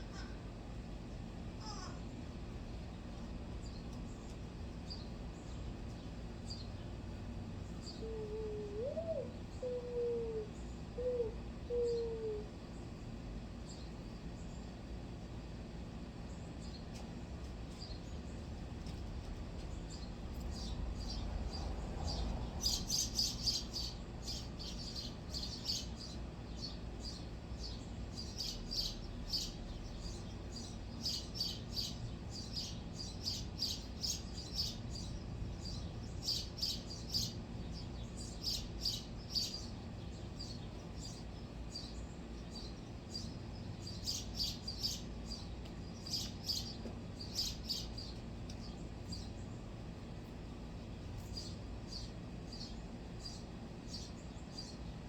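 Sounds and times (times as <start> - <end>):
low steady rumble: 0.0 - 55.0
small birds chirping: 1.6 - 55.0.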